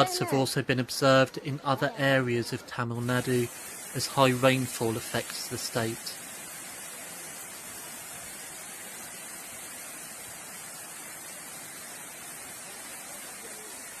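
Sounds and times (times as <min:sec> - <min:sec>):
rushing water hiss: 0:00.0 - 0:14.0.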